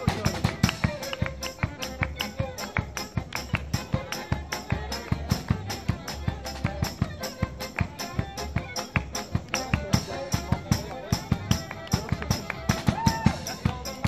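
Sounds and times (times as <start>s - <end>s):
accordion: 0.0s - 14.0s
double bass: 0.0s - 14.0s
drum kit beating: 0.0s - 14.0s
violin: 0.0s - 14.0s.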